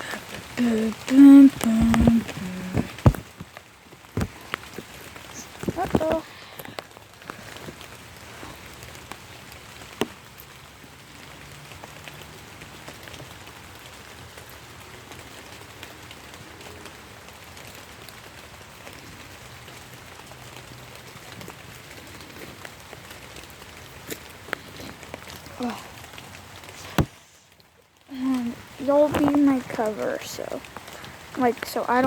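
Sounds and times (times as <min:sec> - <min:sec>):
raindrop ticks: 0:00.0 - 0:32.0
steady rain falling: 0:00.0 - 0:32.0.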